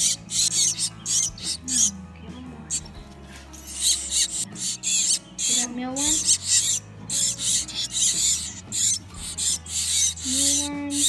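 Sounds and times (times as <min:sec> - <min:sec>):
nestling birds cheeping: 0:00.0 - 0:11.0.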